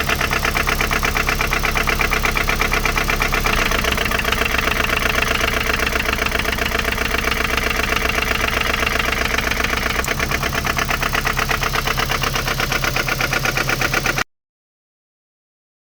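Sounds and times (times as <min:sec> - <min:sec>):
car engine idling with knocking: 0:00.0 - 0:14.3.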